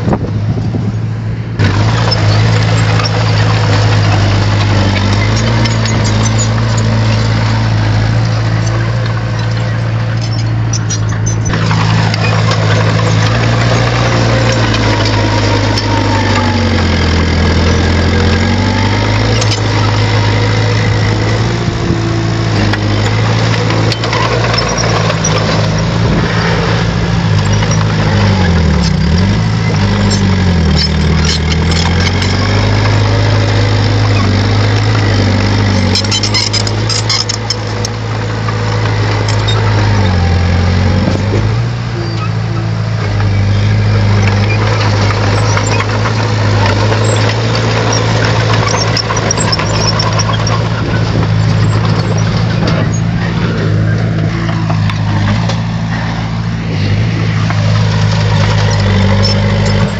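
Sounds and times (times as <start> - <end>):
bulldozer diesel engine: 0.0 - 59.9
sharp clicks and clanks: 1.6 - 42.4, 43.0 - 59.9.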